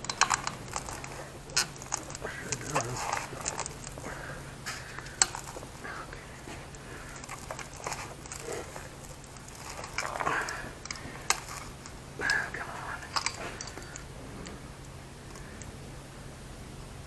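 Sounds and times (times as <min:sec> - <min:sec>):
scraping and crinkling: 0:00.0 - 0:15.8.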